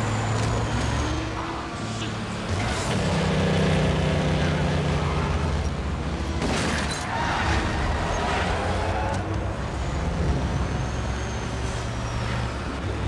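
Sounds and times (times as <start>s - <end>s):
road and wind noise: 0.0s - 13.0s
truck engine drone: 0.0s - 13.0s.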